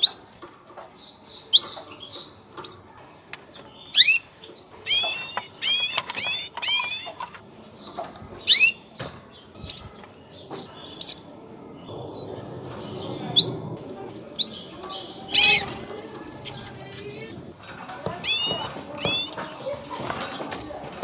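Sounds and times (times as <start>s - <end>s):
canary chirps: 0.0s - 20.3s.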